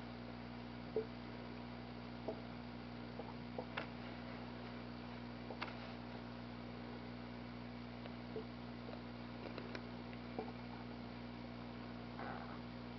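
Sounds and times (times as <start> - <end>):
low electrical hum: 0.0 - 12.9.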